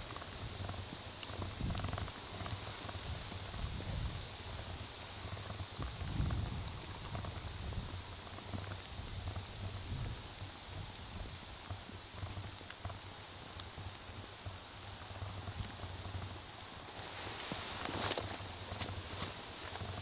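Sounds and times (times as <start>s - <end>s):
light rain pattering: 0.0s - 20.0s
low steady rumble: 0.0s - 20.0s.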